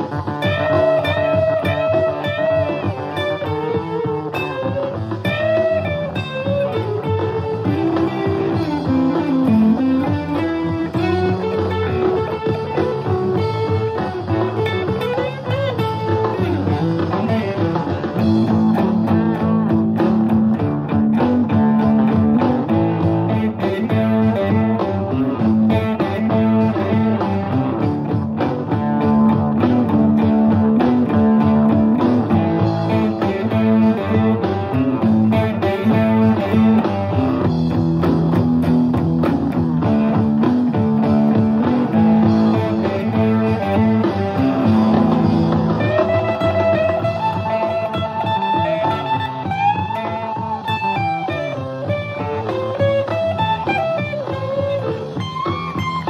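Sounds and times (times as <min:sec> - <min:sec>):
electric guitar playing: 0:00.0 - 0:56.0.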